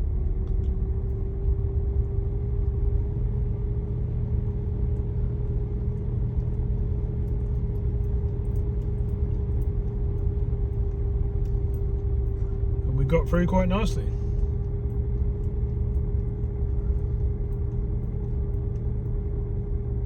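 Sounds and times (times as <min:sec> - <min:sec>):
vehicle engine running at low speed: 0:00.0 - 0:20.0.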